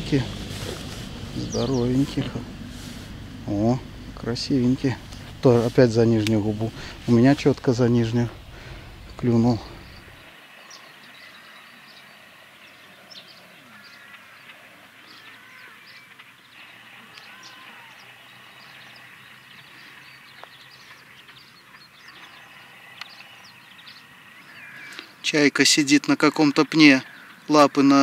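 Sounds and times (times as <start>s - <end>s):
birds chirping: 0.0s - 28.0s
open-air background hush: 0.0s - 28.0s.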